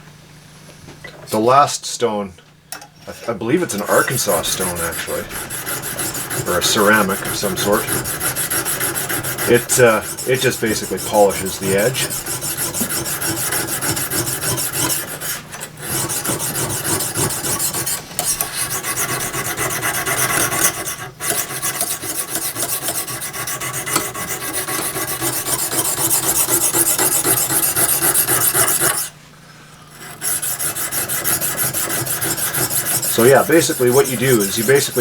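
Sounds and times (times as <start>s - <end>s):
sharpening stone rasping on steel: 3.8s - 29.1s, 29.9s - 35.0s.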